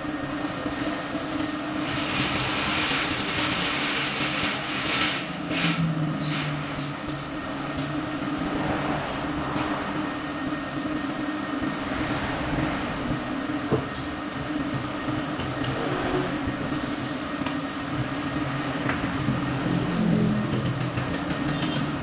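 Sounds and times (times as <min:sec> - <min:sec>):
machinery humming: 0:02.8 - 0:20.5.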